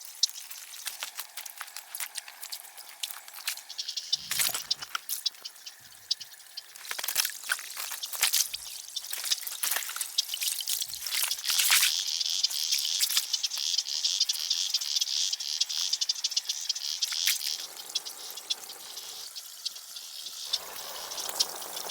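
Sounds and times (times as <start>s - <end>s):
high insect trill: 0.0s - 21.9s
sharp ticks and crackles: 0.0s - 21.9s.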